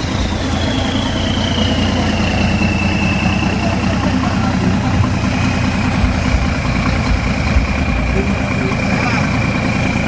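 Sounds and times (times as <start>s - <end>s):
bus engine idling: 0.0s - 10.0s.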